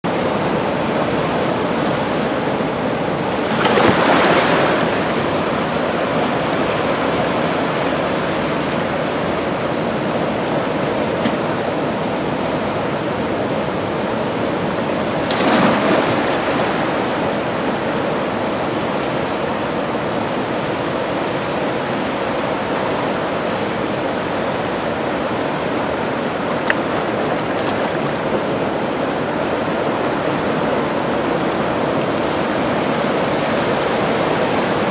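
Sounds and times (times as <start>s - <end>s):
turbulent water rushing: 0.1s - 34.9s.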